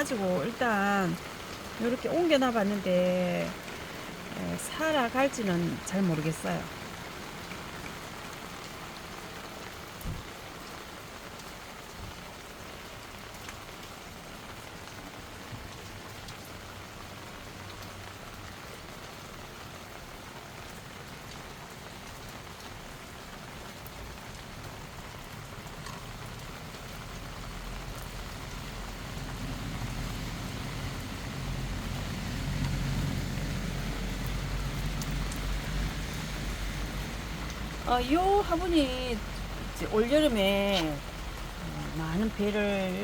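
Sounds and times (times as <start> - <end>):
light rain falling: 0.0 - 43.0.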